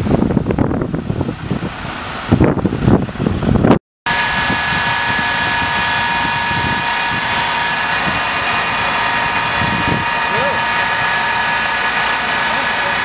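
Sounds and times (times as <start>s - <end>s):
wind gust on microphone: 0.0s - 11.6s
engine and water pump running: 0.0s - 13.0s.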